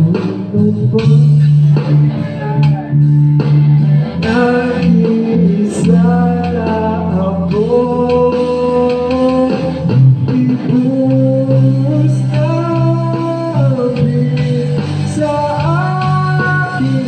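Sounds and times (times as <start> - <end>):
man singing: 0.0 - 3.0, 4.2 - 17.0
electric bass: 0.0 - 17.0
electric guitar: 0.0 - 17.0.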